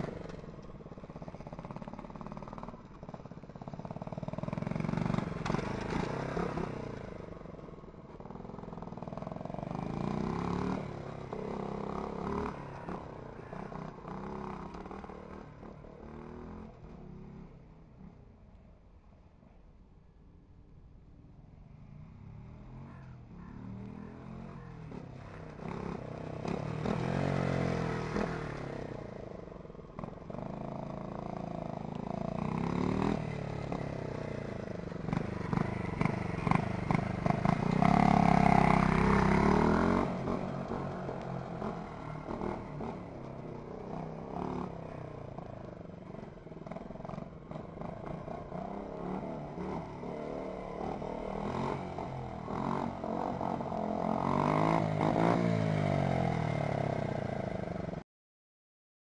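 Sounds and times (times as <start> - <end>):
minibike engine revving past: 0.0 - 17.6, 21.7 - 58.0.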